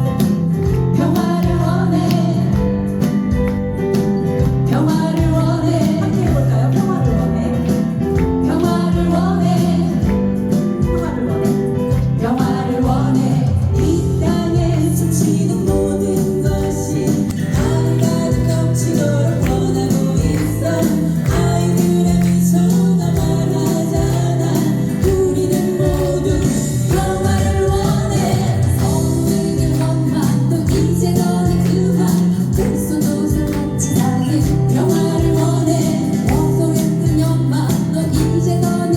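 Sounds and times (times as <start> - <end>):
live pop song with beat: 0.0 - 38.9
voices singing: 4.8 - 10.3, 10.9 - 38.9.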